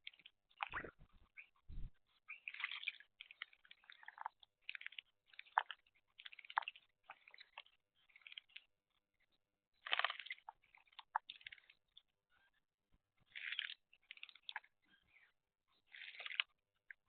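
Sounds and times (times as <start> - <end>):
small birds chirping: 0.0 - 12.6, 13.3 - 16.5.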